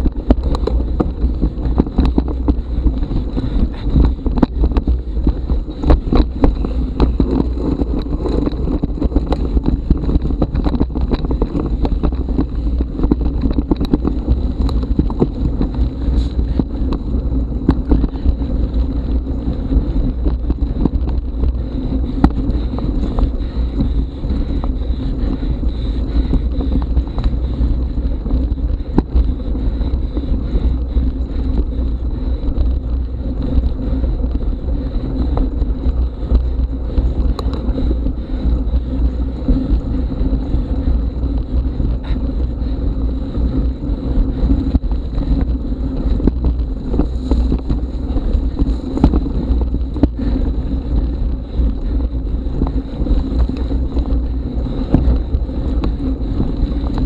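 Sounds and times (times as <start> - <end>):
bike knocks and rattles: 0.0 - 57.0
wind rumble on microphone: 0.0 - 57.0.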